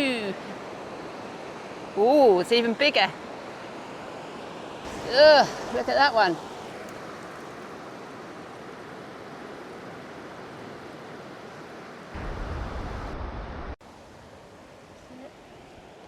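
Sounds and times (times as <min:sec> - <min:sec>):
sea surf: 0:00.0 - 0:16.0
wind: 0:00.0 - 0:16.0.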